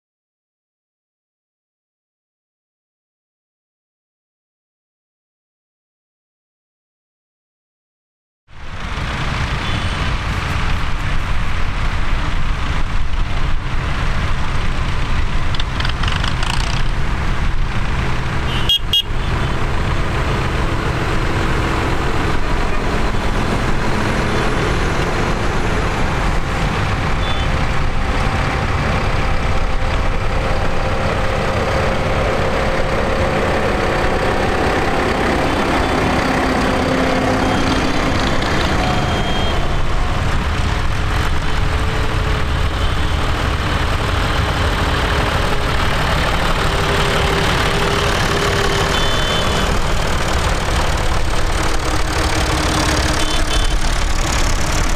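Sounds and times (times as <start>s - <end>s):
tractor diesel engines rumbling: 8.5s - 54.9s.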